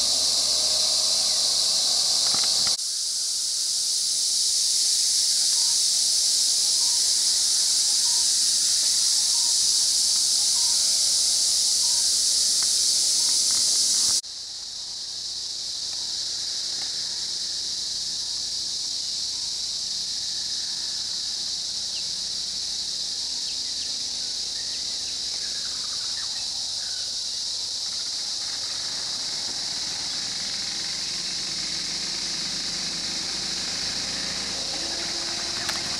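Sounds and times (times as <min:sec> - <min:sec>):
faint vehicle engine: 0:00.0 - 0:03.7, 0:05.4 - 0:35.9
forest insects chorus: 0:00.0 - 0:35.9.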